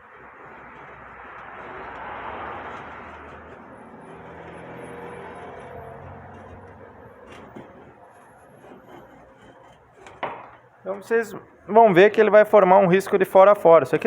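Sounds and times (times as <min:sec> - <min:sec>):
vehicle passing: 0:00.0 - 0:12.9.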